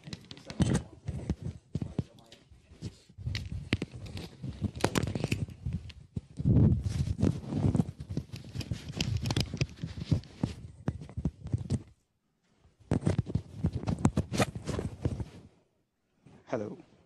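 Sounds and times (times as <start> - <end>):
microphone rubbing and knocking: 0.0 - 12.0, 12.8 - 15.5.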